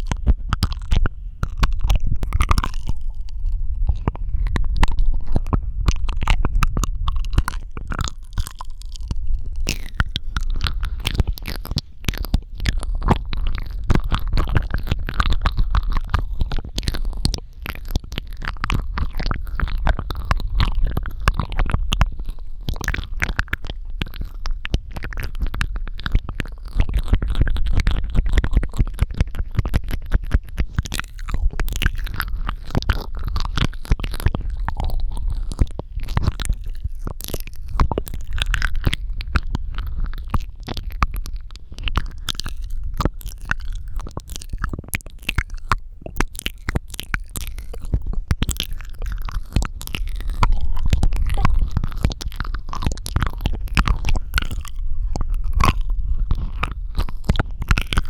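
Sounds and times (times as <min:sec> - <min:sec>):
wet mouth clicks and smacking: 0:00.0 - 0:58.0.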